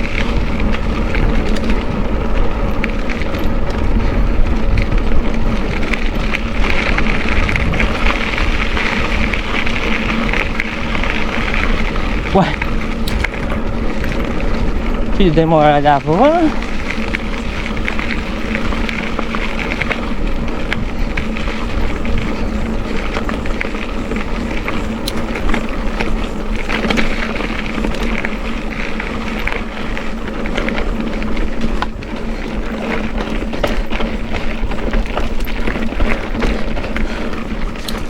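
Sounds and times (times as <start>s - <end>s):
rumble of riding at speed: 0.0s - 38.0s
wind buffeting microphone: 0.0s - 38.0s.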